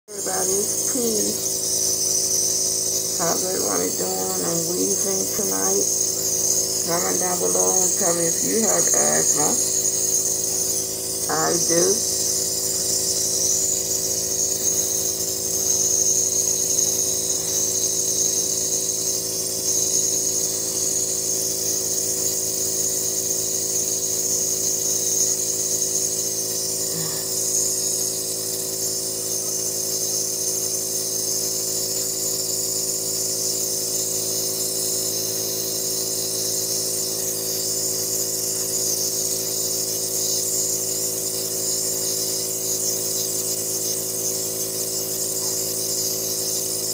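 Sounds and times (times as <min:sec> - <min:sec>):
nebulizer compressor humming: 0:00.0 - 0:46.9.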